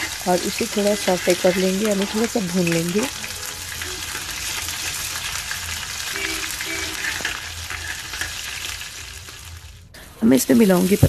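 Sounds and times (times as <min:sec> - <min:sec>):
metal spoon scraping a pan: 0:00.0 - 0:09.4
spices sizzling in hot oil: 0:00.0 - 0:11.0.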